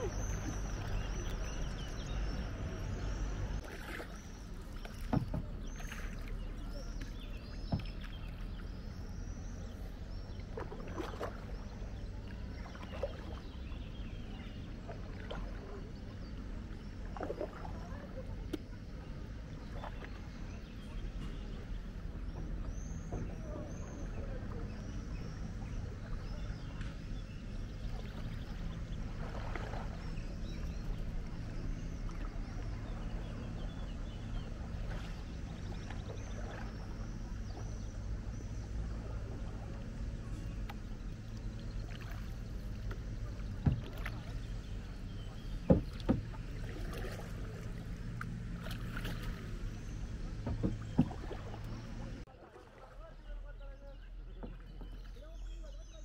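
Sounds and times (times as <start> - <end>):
paddle water splashes and drips: 0.0 - 56.0
steady low rumble: 5.5 - 52.3.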